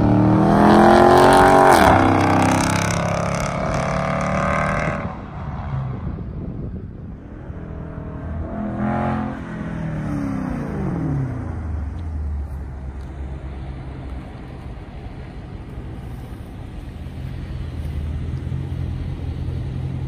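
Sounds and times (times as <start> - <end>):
car engine low rumble: 0.0 - 20.0
car passing at speed: 0.0 - 20.0.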